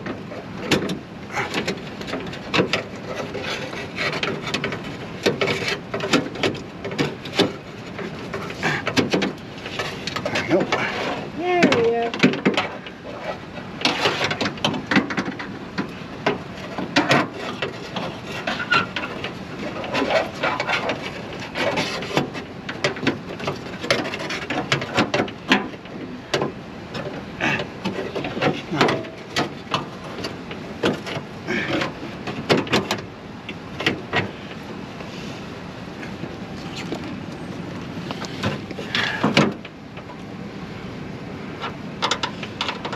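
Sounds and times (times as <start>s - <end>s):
hand tools clicking and clanking: 0.0s - 34.6s, 41.6s - 42.9s.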